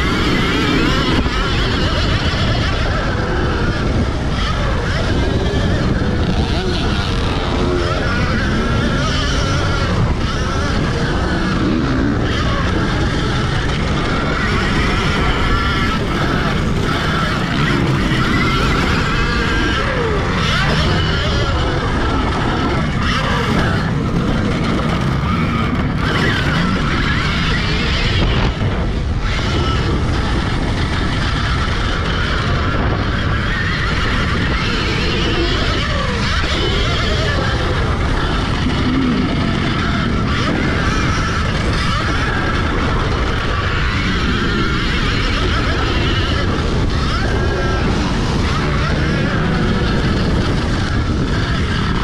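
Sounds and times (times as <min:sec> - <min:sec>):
electric motor whining: 0:00.0 - 0:52.0
wind noise: 0:00.0 - 0:52.0.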